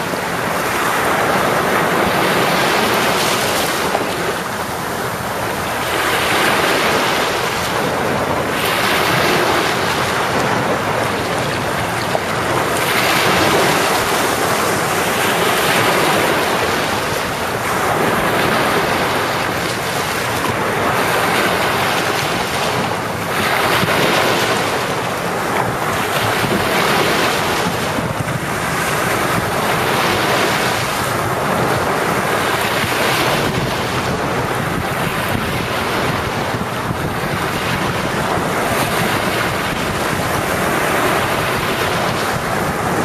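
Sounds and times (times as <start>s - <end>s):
ocean waves breaking on beach: 0.0s - 43.0s
wind on microphone: 0.0s - 43.0s.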